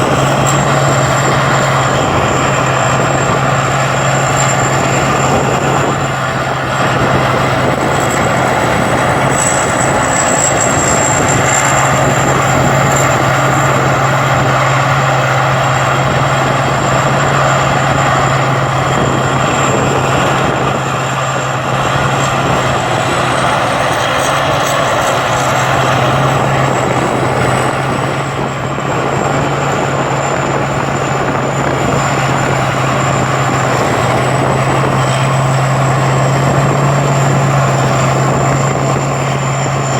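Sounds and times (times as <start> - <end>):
combine harvester engine drone: 0.0 - 39.9
thin high whine: 0.0 - 39.9.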